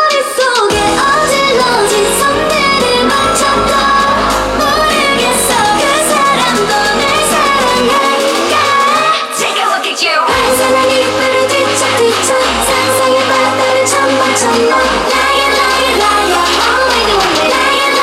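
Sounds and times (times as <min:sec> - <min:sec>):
female group vocals: 0:00.0 - 0:18.0
pop dance song: 0:00.0 - 0:18.0
deep bass: 0:00.7 - 0:09.1, 0:10.3 - 0:17.9.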